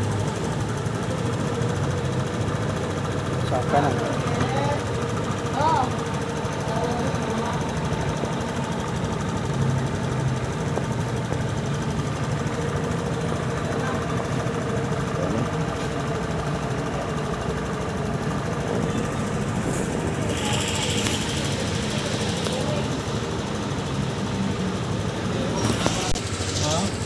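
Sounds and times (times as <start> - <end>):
scooter engine idling: 0.0 - 27.0.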